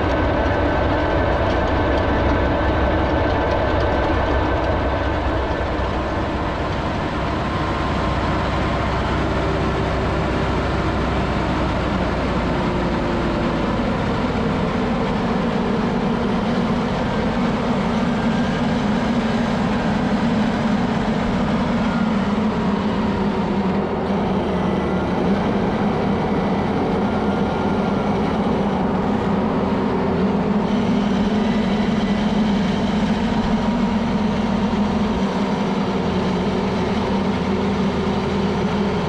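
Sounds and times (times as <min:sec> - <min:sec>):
machinery rattle and rumble: 0:00.0 - 0:39.0.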